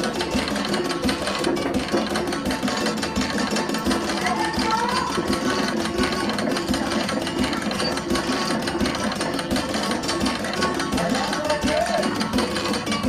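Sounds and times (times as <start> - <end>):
live percussion music: 0.0 - 13.0.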